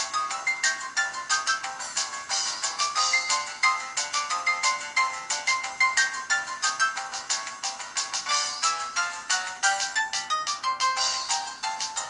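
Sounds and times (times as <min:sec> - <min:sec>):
electronic ringtone melody: 0:00.0 - 0:07.3, 0:08.3 - 0:12.0.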